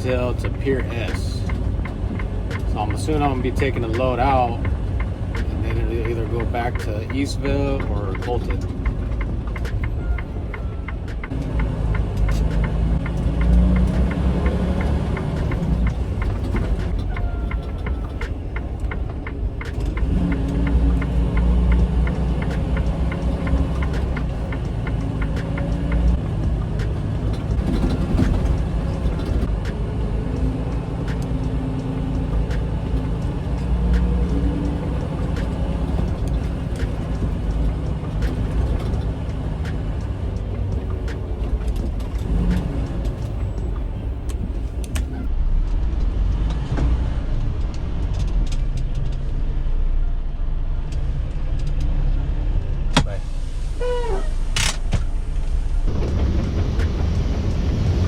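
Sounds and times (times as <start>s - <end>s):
diesel truck engine driving: 0.0s - 58.0s.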